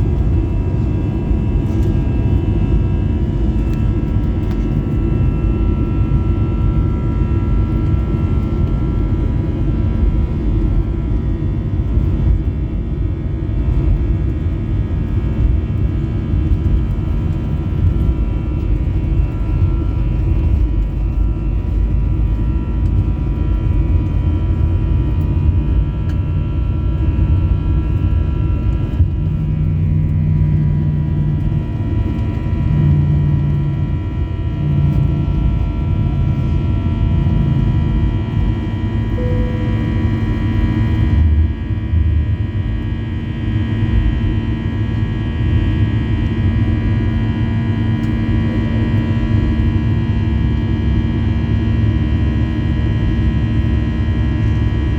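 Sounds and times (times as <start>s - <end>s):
faint engine whine: 0.0s - 54.9s
jet engines rumbling in cabin: 0.0s - 54.9s
low hum: 0.0s - 54.9s.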